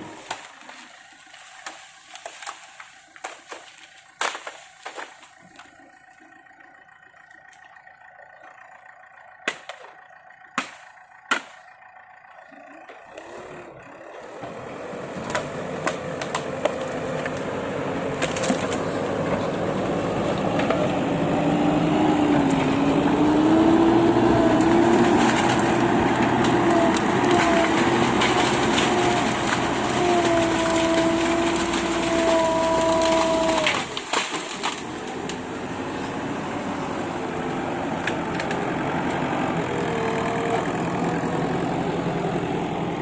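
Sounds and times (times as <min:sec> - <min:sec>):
excavator engine droning: 0:00.0 - 0:43.0.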